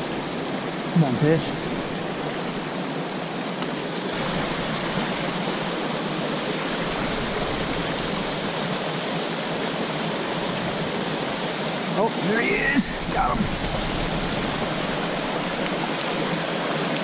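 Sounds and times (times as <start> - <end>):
small waterfall pouring: 0.0 - 17.0
stream rushing: 0.0 - 17.0.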